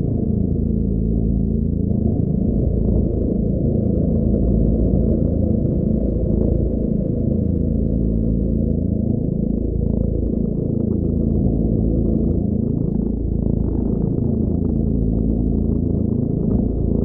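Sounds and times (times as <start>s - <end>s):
electronic ambient synth drone: 0.0s - 17.0s.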